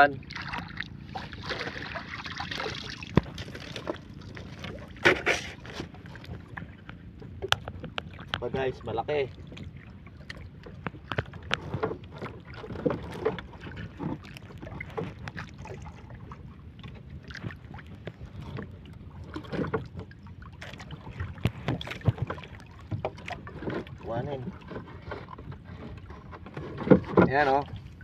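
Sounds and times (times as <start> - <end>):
knocks and clatter in wooden boat: 0.0 - 28.0
low wind: 0.0 - 28.0
water noise: 0.0 - 28.0.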